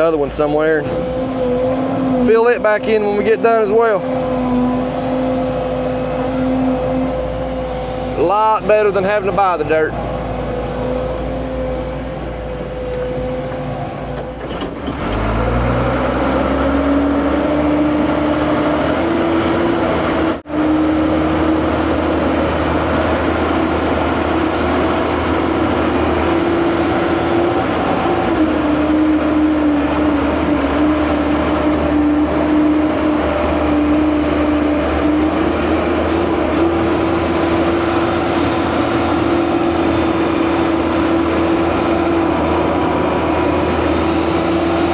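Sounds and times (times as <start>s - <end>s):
heavy diesel engine revving: 0.0s - 44.9s.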